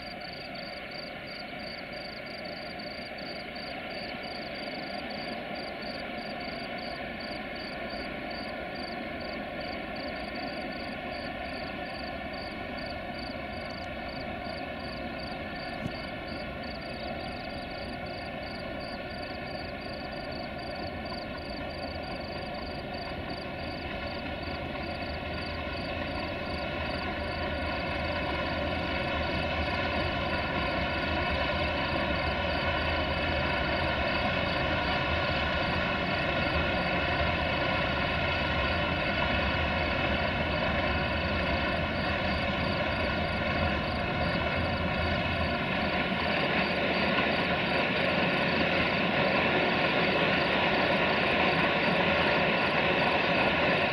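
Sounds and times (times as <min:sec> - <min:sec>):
distant diesel locomotive drone: 0:00.0 - 0:53.9.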